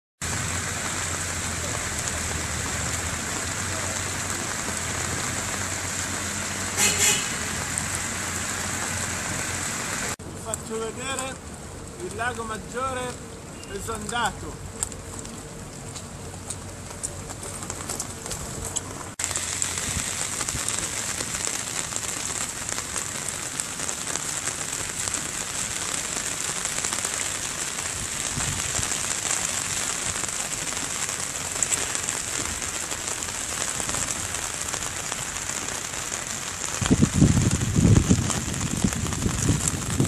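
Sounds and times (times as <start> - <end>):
steady rain hiss: 0.2 - 40.0.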